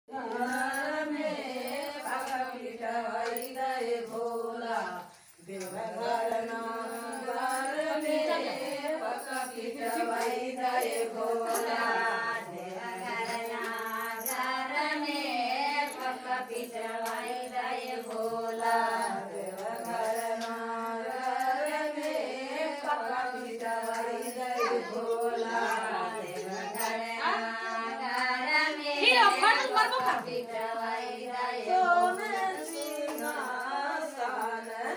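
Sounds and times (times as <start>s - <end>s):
women singing a devotional song: 0.0s - 34.9s.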